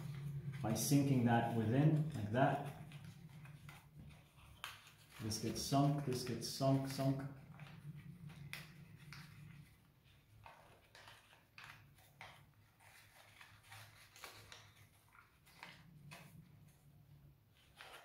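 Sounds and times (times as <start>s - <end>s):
low steady hum: 0.0s - 18.0s
paper crinkling: 0.2s - 16.8s.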